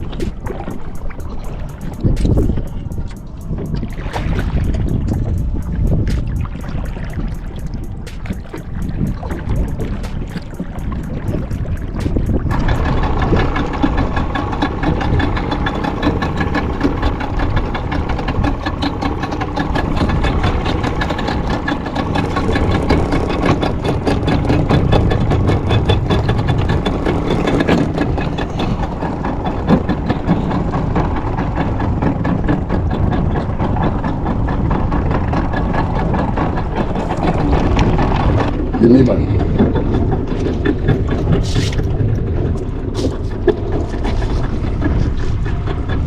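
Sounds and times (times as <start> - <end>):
boat engine running: 0.0 - 46.0.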